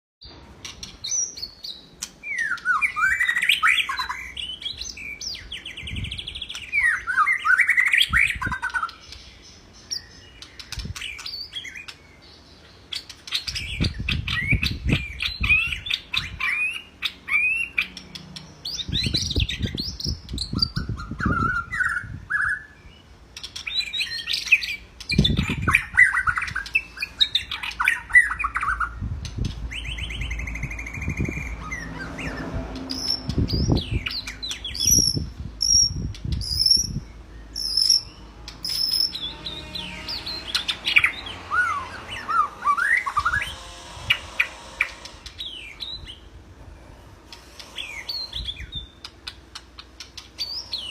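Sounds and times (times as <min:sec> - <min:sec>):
bird singing whistles and chatter: 0:00.7 - 0:12.0, 0:12.9 - 0:22.8, 0:23.4 - 0:43.6.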